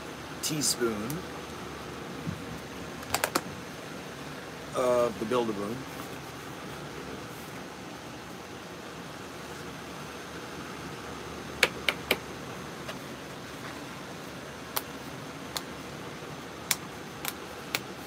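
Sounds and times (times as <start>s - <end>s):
fan hum: 0.0s - 18.0s.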